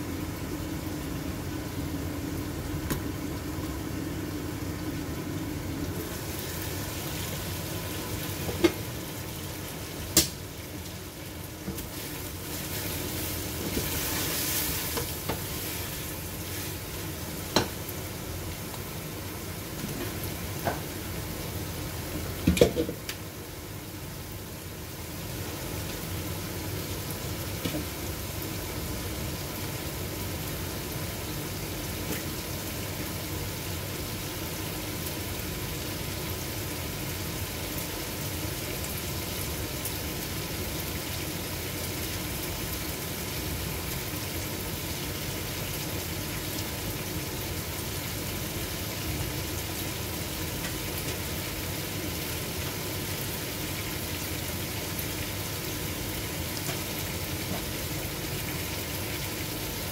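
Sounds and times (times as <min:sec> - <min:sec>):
curry sizzling in a pot: 0:00.0 - 0:59.9.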